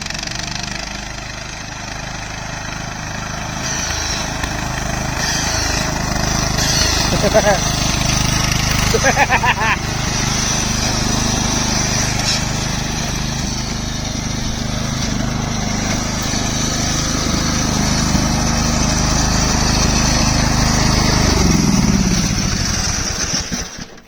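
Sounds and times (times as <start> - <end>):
riding lawnmower engine running: 0.0 - 24.0.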